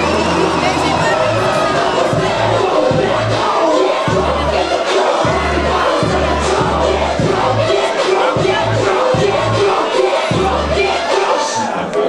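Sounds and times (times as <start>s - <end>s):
crowd voices: 0.0s - 12.0s
loud music with deep bass: 0.0s - 12.0s.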